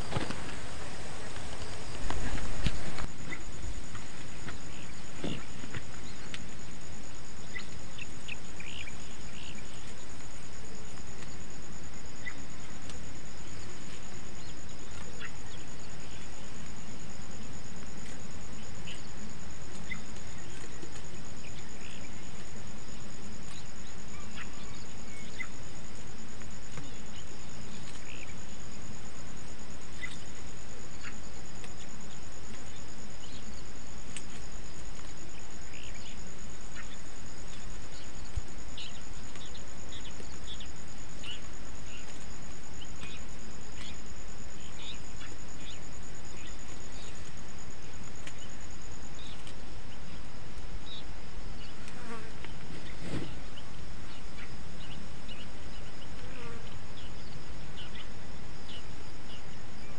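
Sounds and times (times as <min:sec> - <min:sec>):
insect trilling: 0:00.0 - 0:59.9.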